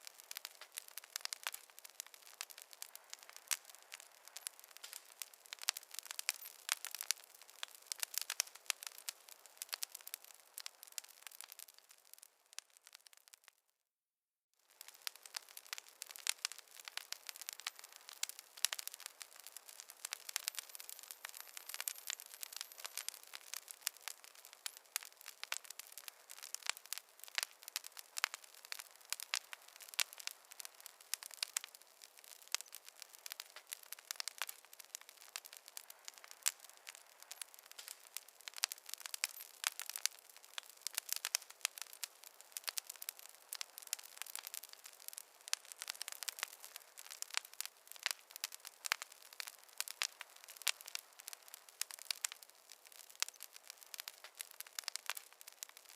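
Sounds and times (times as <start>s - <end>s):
bonfire crackling: 0.0s - 13.6s, 14.6s - 55.9s.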